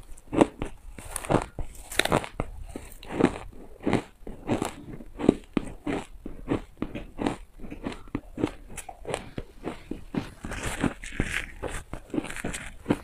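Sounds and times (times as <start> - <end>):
ice being chewed crunching: 0.0 - 13.0.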